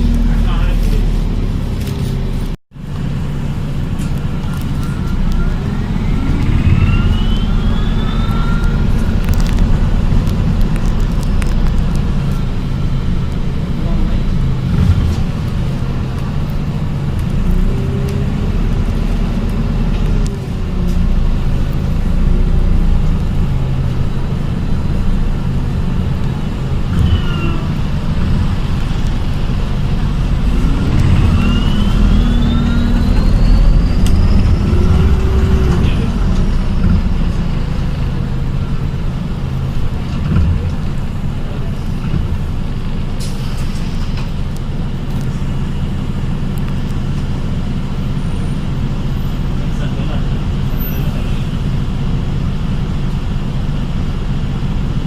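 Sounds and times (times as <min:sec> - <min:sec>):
bus drivetrain rumble: 0:00.0 - 0:55.0.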